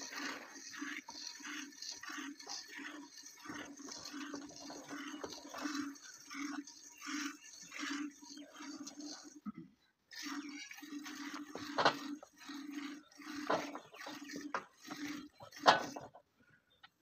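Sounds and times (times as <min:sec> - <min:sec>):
milk squirting into metal pot: 0:00.0 - 0:09.4, 0:10.1 - 0:16.1.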